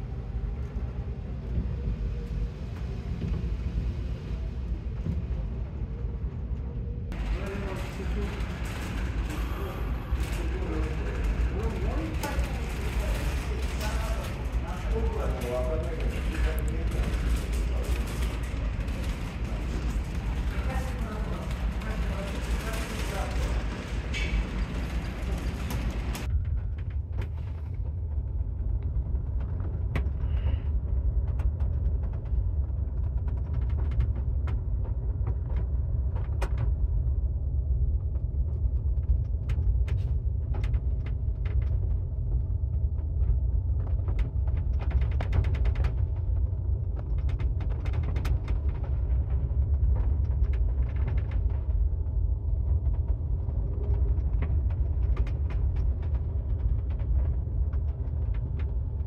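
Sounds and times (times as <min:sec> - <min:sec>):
ship engine rumble: 0:00.0 - 0:59.0.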